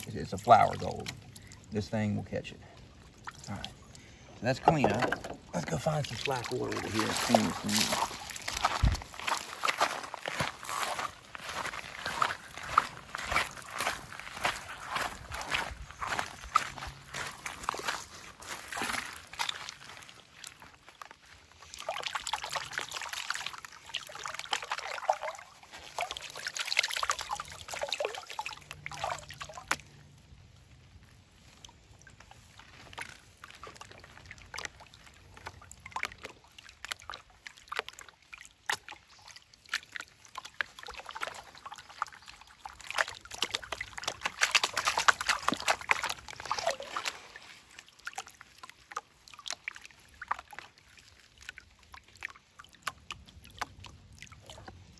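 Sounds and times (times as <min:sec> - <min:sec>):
water sloshing and pouring: 0:00.0 - 0:54.9
water trickling: 0:00.0 - 0:54.9.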